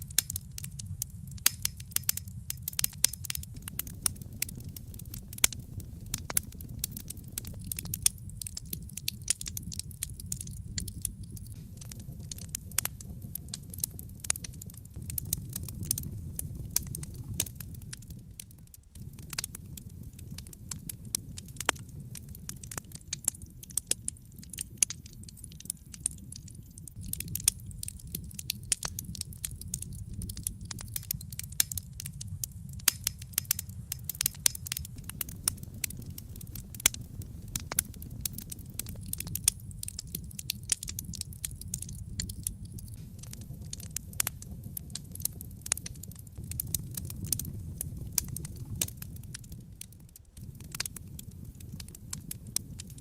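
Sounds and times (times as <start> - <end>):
burning wood crackling and popping: 0.0 - 53.0
low rumble of flames: 0.0 - 53.0.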